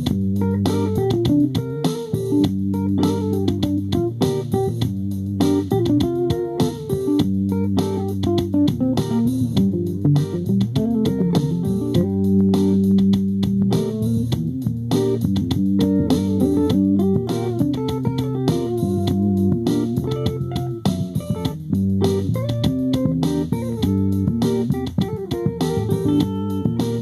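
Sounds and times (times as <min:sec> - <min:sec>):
funk music: 0:00.0 - 0:27.0.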